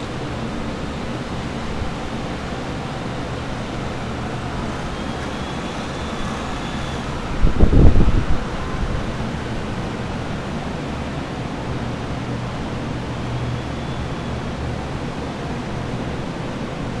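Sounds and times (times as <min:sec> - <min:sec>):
air movers whooshing and humming: 0:00.0 - 0:17.0.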